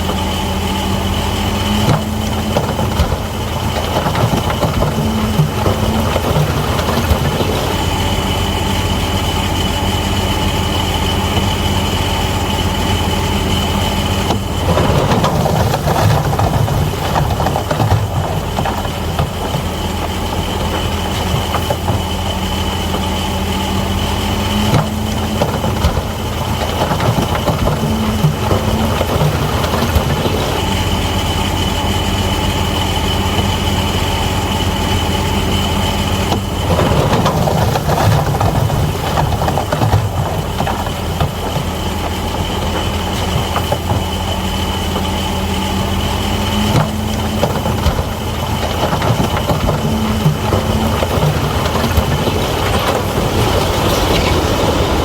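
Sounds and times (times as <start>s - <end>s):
diesel engine running: 0.0s - 55.0s
machine clanking and rattling: 0.0s - 55.0s.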